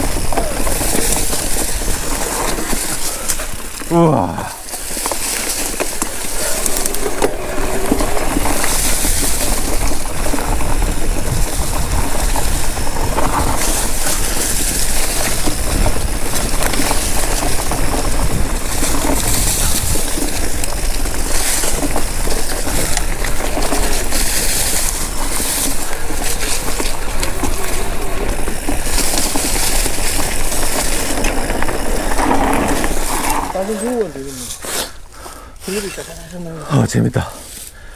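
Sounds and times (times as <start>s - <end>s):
bike knocking over bumps: 0.0s - 34.0s
tyres rolling over dirt and rock: 0.0s - 37.9s
wind over microphone: 4.4s - 35.0s.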